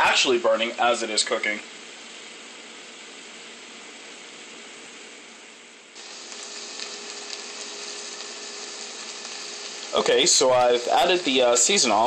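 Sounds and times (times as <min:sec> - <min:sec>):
wine sizzling in a hot pot: 0:00.0 - 0:12.0.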